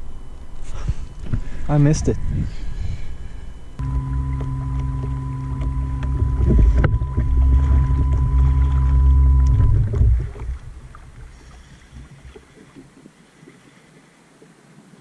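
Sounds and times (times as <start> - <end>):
motor humming: 0.0 - 12.1.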